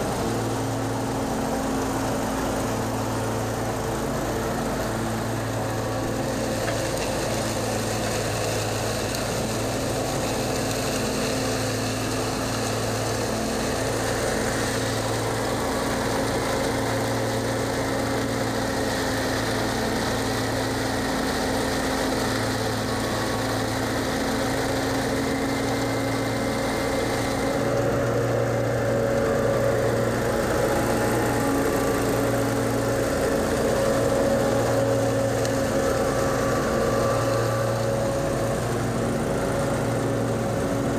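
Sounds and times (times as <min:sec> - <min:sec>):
mower engine running: 0:00.0 - 0:40.9.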